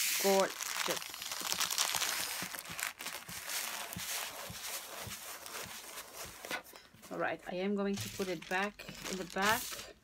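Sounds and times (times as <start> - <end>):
plastic film crinkling: 0.0 - 6.5, 7.9 - 10.0.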